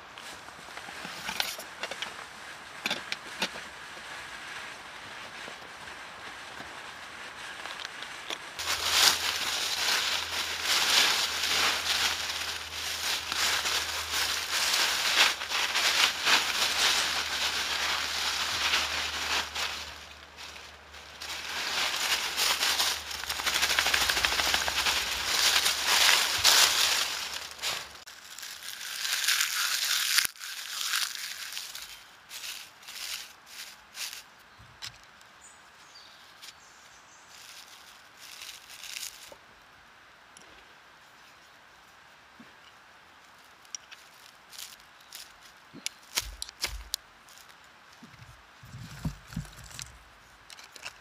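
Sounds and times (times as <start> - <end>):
dry leaves and twigs crunching: 0.0 - 39.5, 41.0 - 51.0.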